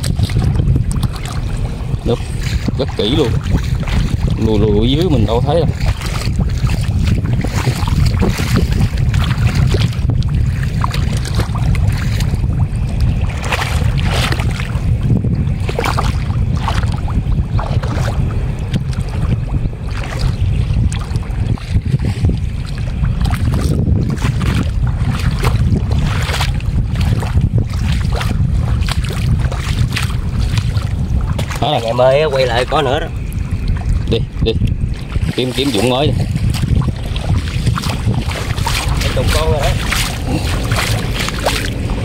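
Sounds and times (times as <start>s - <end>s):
feet wading through muddy water: 0.0s - 42.0s
wind buffeting microphone: 0.0s - 42.0s.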